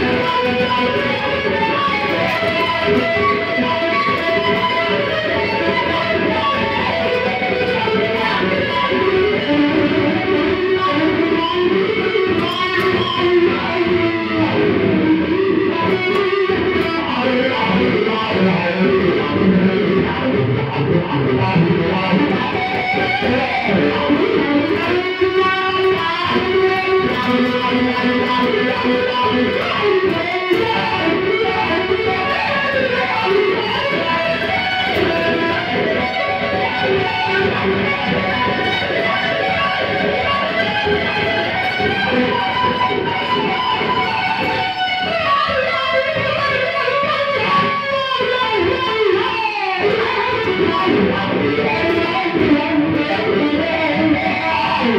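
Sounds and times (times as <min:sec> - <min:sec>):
electric guitar with wah pedal: 0:00.0 - 0:54.9.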